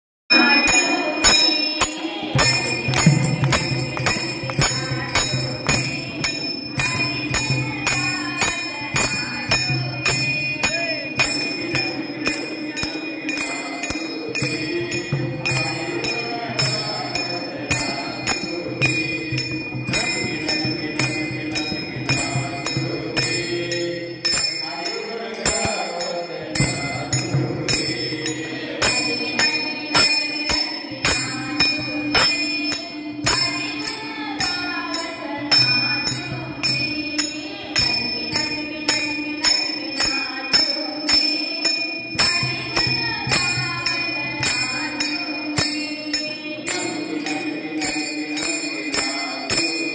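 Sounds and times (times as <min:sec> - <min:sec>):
jingling hand percussion: 0:00.3 - 0:49.9.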